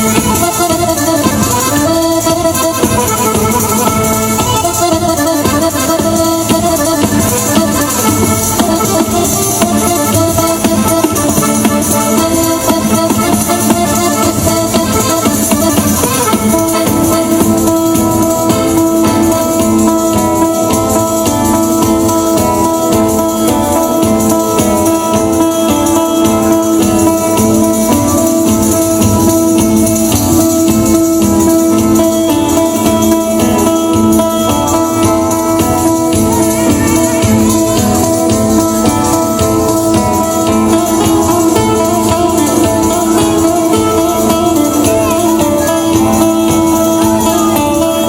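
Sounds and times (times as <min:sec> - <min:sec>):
frame drum: 0:00.0 - 0:48.0
guitar: 0:00.0 - 0:48.0
jingling percussion: 0:00.0 - 0:48.0
long held notes: 0:00.0 - 0:48.0.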